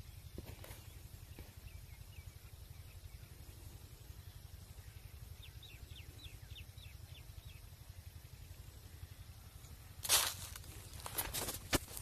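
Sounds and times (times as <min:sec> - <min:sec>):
low steady rumble: 0:00.0 - 0:12.0
small bird chirping: 0:00.0 - 0:12.0.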